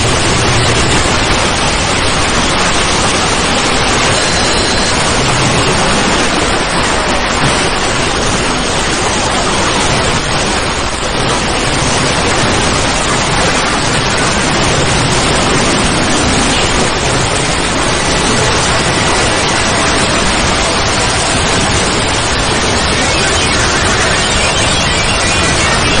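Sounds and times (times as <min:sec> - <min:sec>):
loud static hiss: 0:00.0 - 0:26.0.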